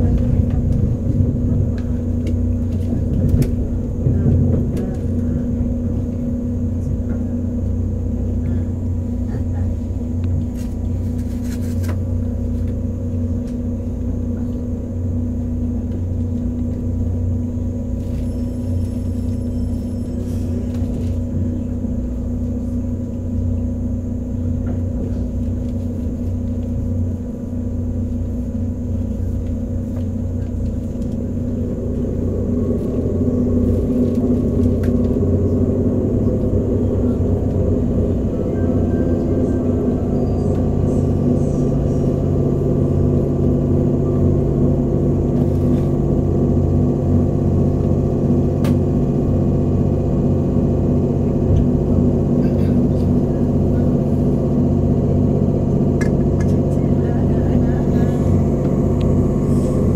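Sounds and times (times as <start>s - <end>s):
train tones: 0.0s - 48.8s
constant hum: 0.0s - 59.9s
electric train interior rumble: 0.0s - 59.9s.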